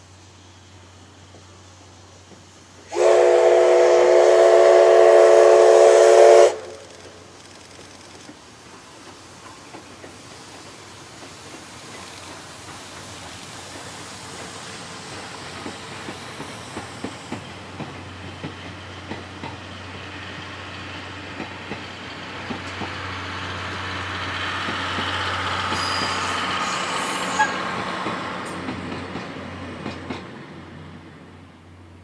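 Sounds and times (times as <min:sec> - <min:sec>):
diesel locomotive passing: 0:00.0 - 0:32.0
train wheels clicking over rail joints: 0:01.2 - 0:03.4, 0:06.2 - 0:31.1.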